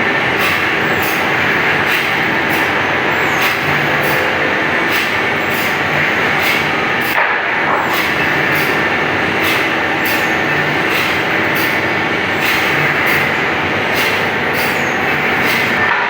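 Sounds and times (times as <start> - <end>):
saw sharpening machine grinding: 0.0 - 7.2, 7.9 - 15.9.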